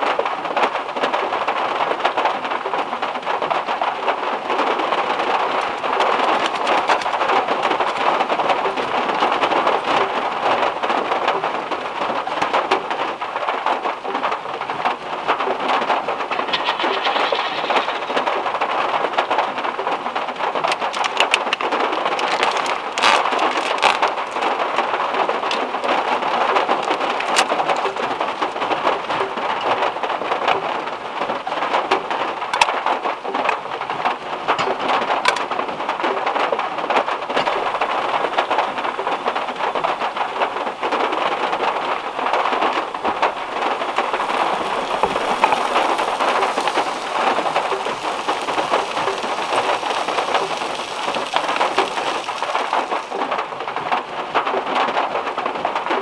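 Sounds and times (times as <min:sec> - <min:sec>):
heavy rain on car roof: 0:00.0 - 0:56.0.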